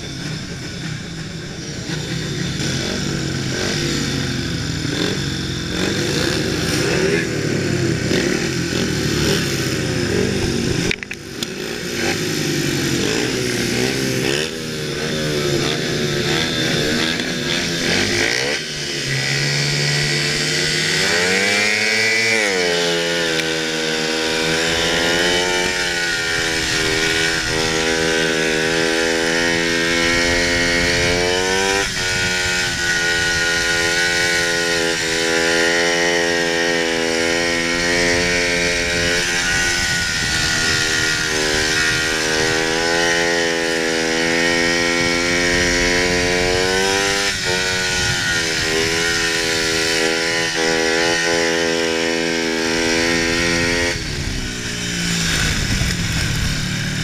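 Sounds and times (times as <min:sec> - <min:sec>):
motorbike engine running hard: 0:00.0 - 0:57.0.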